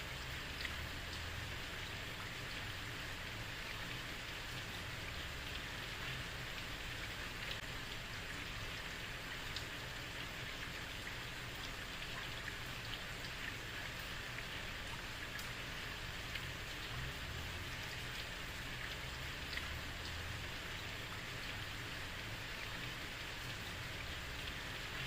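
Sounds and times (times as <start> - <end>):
heavy rain on a street: 0.0 - 25.0.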